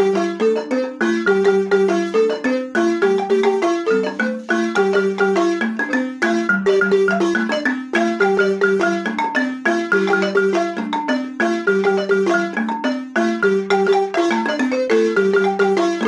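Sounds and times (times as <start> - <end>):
wooden xylophone melody: 0.0 - 16.0.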